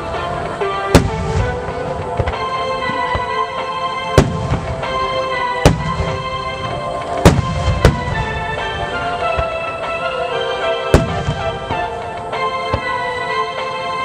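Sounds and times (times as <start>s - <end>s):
firework booms: 0.0s - 3.4s, 4.0s - 10.0s, 10.8s - 13.0s
music: 0.0s - 14.0s.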